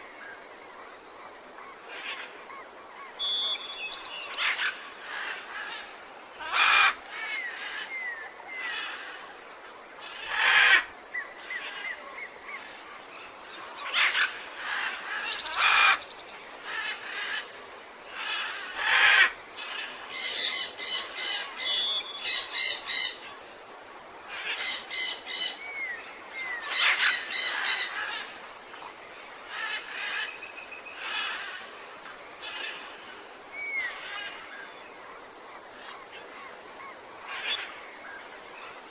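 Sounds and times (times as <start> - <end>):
tropical birds calling: 1.6 - 9.4, 10.0 - 23.5, 24.3 - 38.9.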